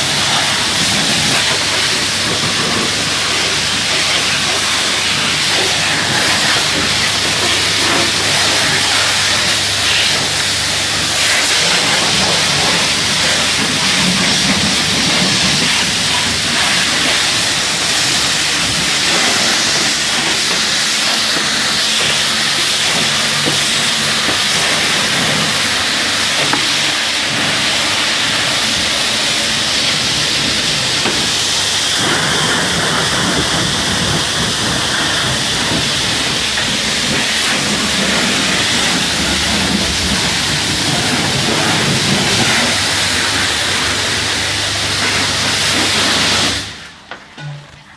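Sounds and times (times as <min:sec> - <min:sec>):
high-pressure water spraying: 0:00.0 - 0:47.2.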